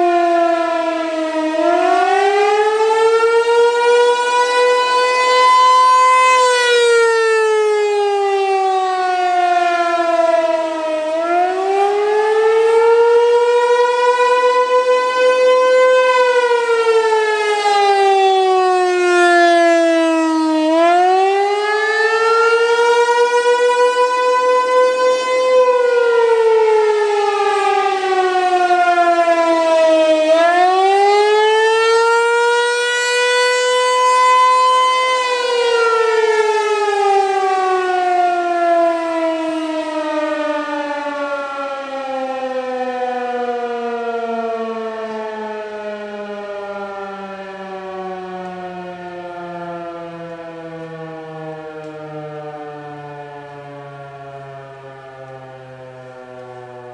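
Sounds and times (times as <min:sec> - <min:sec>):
rotating siren wailing: 0:00.0 - 0:56.9.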